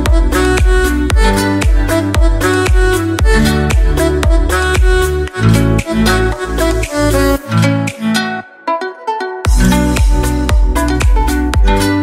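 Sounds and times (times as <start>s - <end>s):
deep bass line: 0.0s - 8.0s, 9.5s - 12.0s
music with steady beat: 0.0s - 12.0s.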